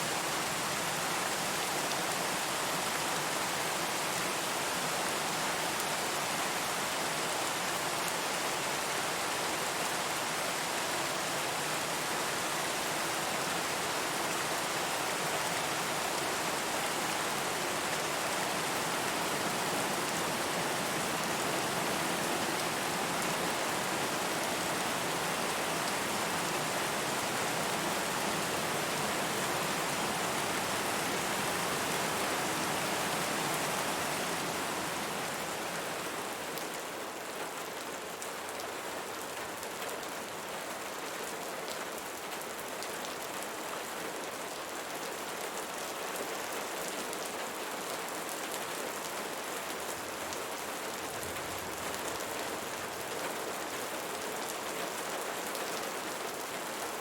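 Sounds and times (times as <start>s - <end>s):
rain hissing on a surface: 0.0s - 57.0s.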